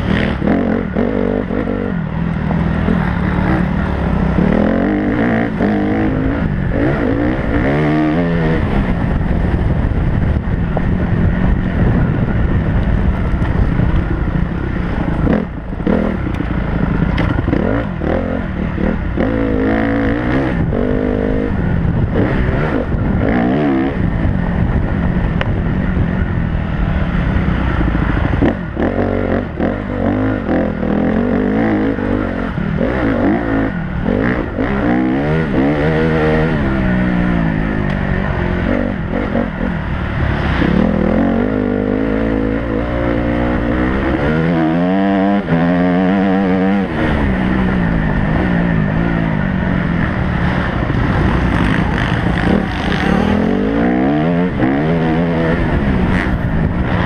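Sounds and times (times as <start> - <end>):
motocross bike engine revving: 0.0 - 9.5, 13.2 - 24.7, 26.7 - 57.0.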